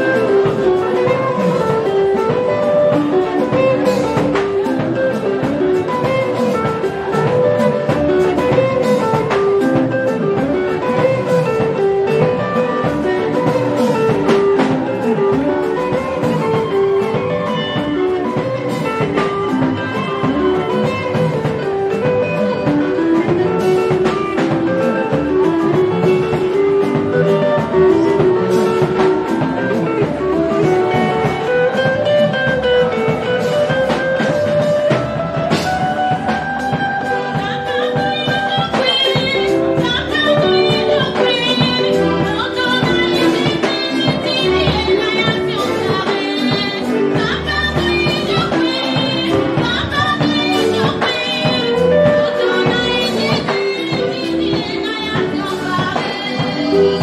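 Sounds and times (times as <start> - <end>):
drum kit: 0.0 - 57.0
electric guitar melody: 0.0 - 57.0.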